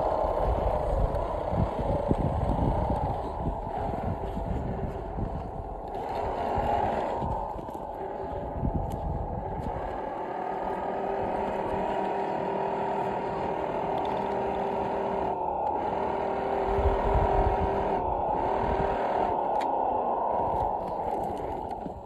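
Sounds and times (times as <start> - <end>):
model car motor droning: 0.0 - 19.7
low rumble: 0.0 - 22.0.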